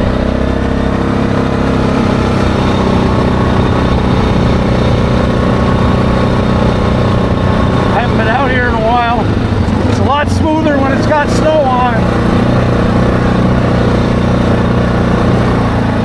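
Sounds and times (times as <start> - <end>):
atv engine running steadily: 0.0 - 16.0
wind rush: 1.7 - 16.0.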